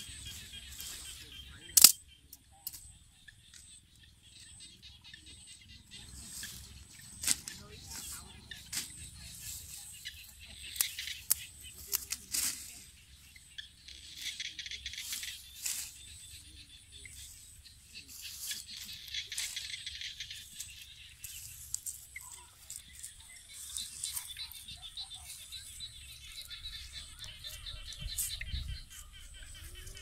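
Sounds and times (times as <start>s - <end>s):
leaves rustling and crackling: 0.0s - 1.9s, 5.9s - 30.0s.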